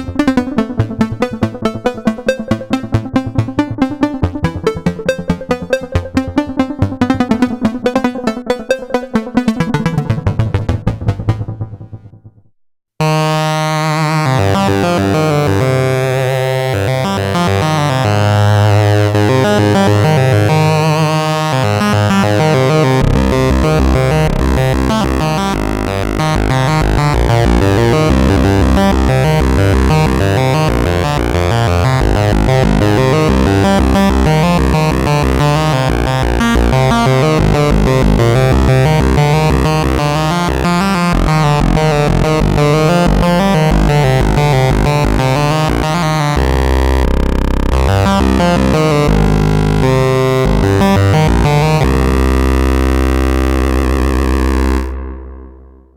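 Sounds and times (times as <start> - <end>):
synthesizer lead melody: 0.0 - 12.3, 13.0 - 55.8
pulsing synth bass: 0.0 - 12.4, 13.0 - 55.9.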